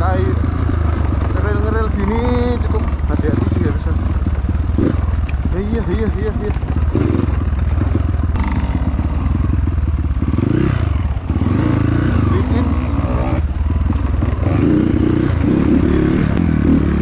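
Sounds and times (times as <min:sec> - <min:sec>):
clatter: 0:00.0 - 0:17.0
motorcycle engine running: 0:00.0 - 0:17.0.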